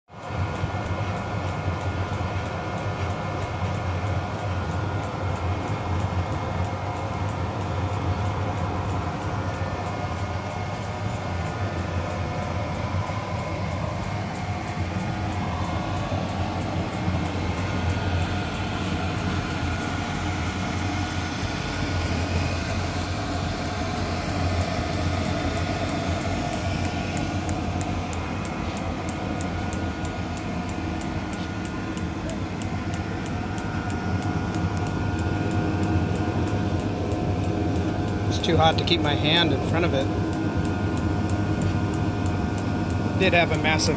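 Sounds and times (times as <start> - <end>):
heater whirring hum: 0.1 - 43.9
fast fine ticking: 0.2 - 20.8, 22.3 - 43.9.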